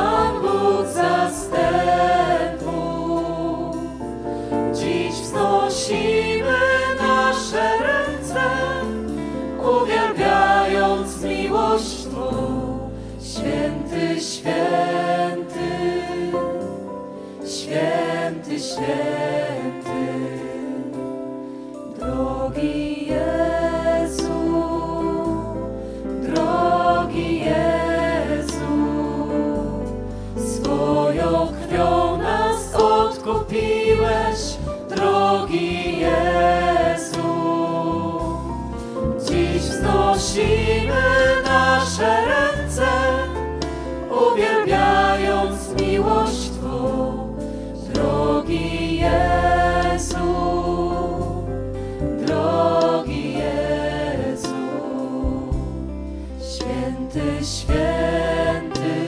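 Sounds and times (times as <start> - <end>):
people singing: 0.0 - 16.8, 17.4 - 21.2, 21.9 - 59.0.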